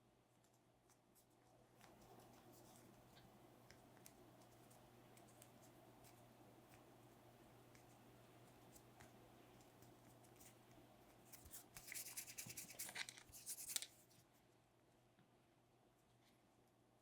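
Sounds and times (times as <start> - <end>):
clay scratching and rubbing: 0.4 - 14.3.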